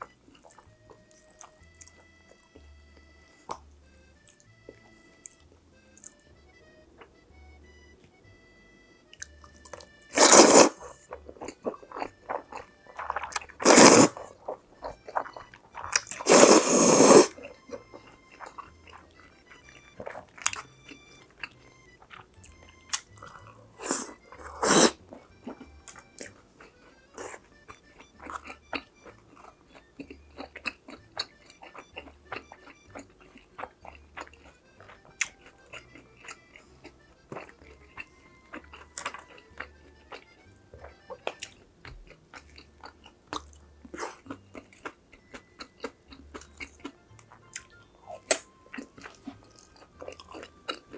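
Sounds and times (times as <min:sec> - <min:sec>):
chewing with wet clicks: 0:00.0 - 0:07.2, 0:09.1 - 0:50.9
quiet background music: 0:00.0 - 0:50.9
crunching bites of crisp food: 0:09.1 - 0:50.9.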